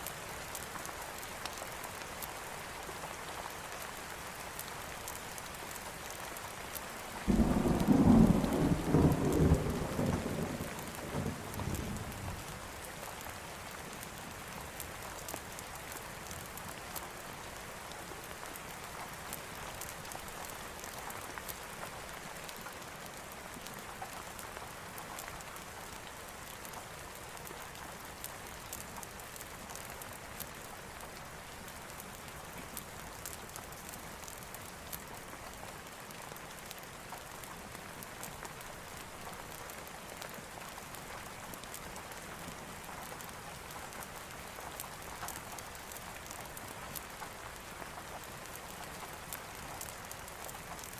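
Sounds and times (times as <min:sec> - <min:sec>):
steady rain: 0:00.0 - 0:50.9.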